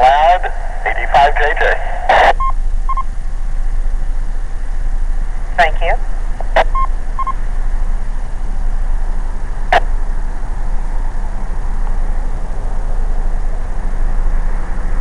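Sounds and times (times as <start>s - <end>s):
rushing noise inside a car: 0.0s - 15.0s.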